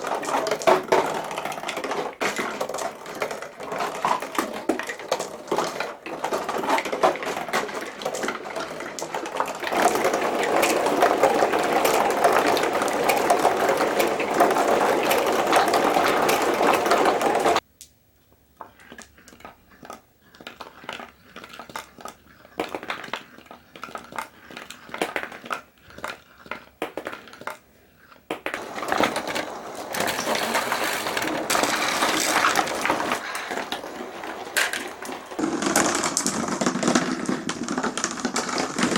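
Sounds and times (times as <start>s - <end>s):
glass marbles rolling and clacking: 0.0s - 17.6s, 18.6s - 38.9s.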